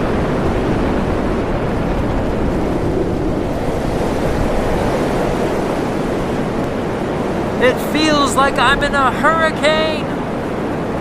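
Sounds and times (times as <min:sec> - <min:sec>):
deep rush of strong wind: 0:00.0 - 0:11.0.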